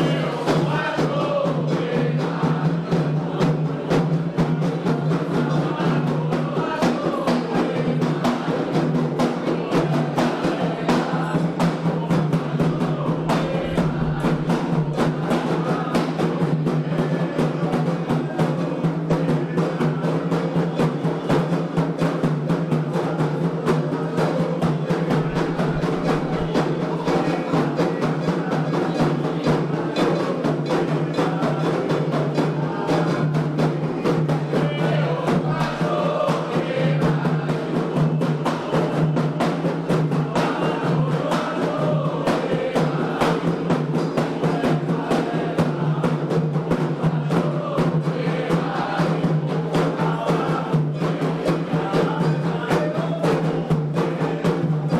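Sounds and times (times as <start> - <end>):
hand drums playing fast rhythm: 0.0 - 54.9.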